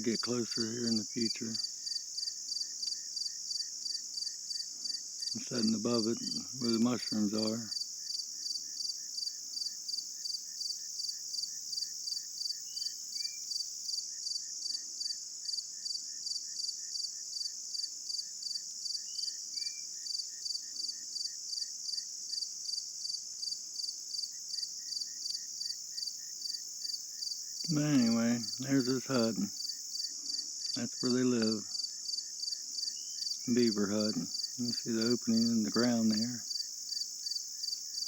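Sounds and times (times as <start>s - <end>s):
faint short insect chirps: 0.0s - 38.0s
insects chirping in chorus: 0.0s - 38.0s.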